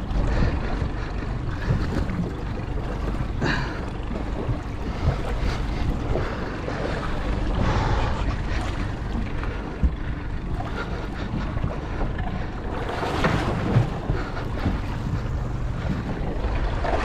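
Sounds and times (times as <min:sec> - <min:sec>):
water wash: 0:00.0 - 0:17.0
wind rumbling on microphone: 0:00.0 - 0:17.0.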